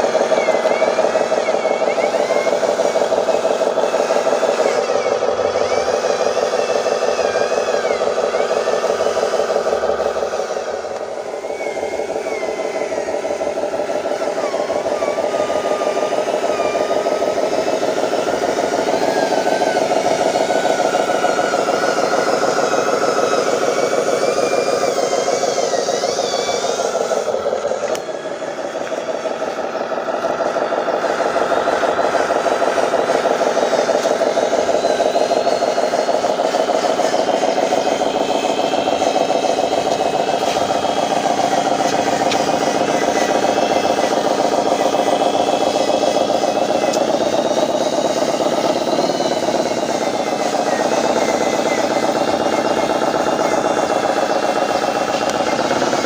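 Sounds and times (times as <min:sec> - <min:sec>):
toy truck motor whining: 0:00.0 - 0:56.0.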